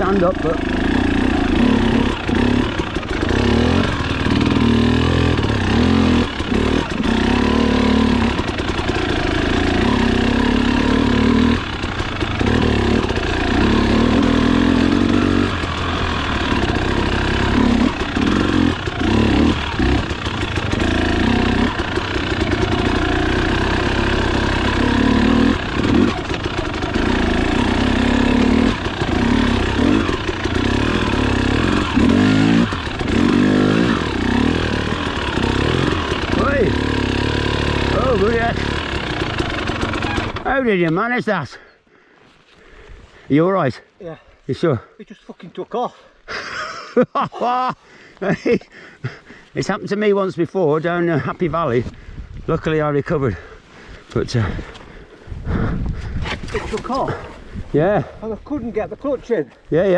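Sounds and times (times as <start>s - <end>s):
motorcycle engine revving on a climb: 0.0s - 41.0s, 48.1s - 58.2s.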